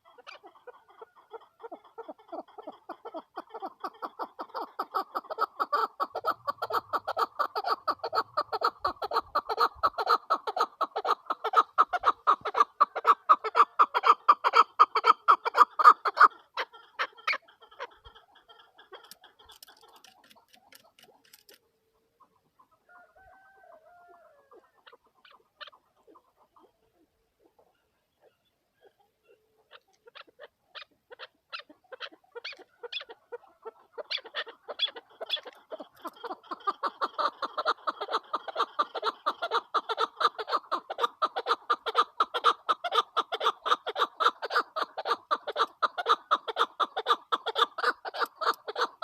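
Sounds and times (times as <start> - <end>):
partridge clucking call: 0.0 - 21.6, 23.4 - 49.0.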